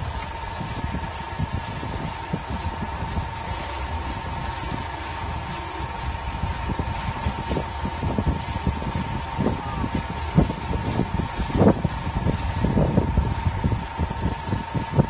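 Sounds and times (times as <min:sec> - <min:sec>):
concrete mixer humming and whining: 0:00.0 - 0:15.0.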